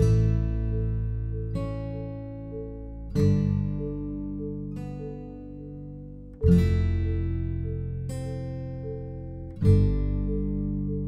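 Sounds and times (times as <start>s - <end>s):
acoustic guitar strum: 0.0s - 11.0s.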